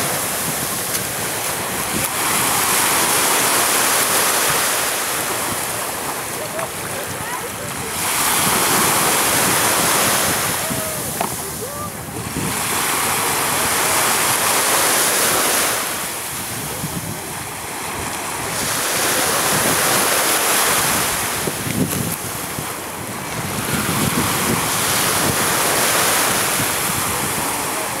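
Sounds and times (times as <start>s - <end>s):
waves washing: 0.0s - 28.0s
wind rushing over microphone: 0.0s - 28.0s.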